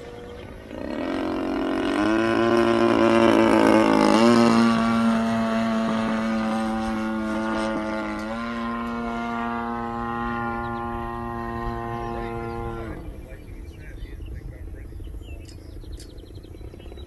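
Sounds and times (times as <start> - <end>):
model plane engine buzzing: 0.0 - 13.7.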